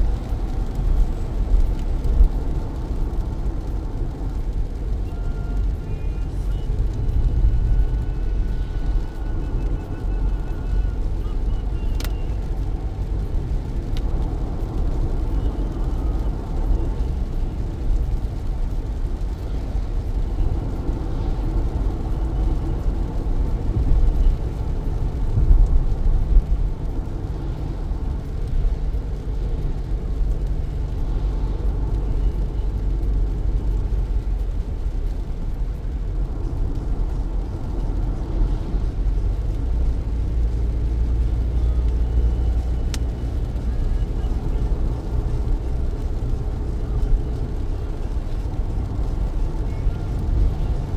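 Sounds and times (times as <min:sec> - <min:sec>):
rain hissing: 0:00.0 - 0:50.9
tyre and road noise: 0:00.0 - 0:50.9.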